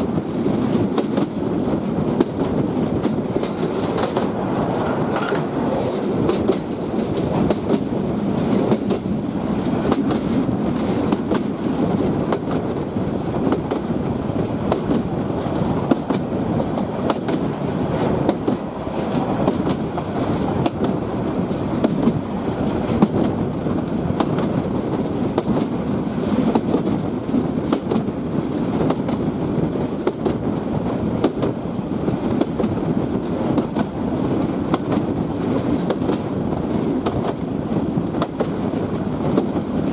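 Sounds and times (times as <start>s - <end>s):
rail joint clicks and knocks: 0.0s - 39.9s
train wheels rumbling on rail: 0.0s - 39.9s.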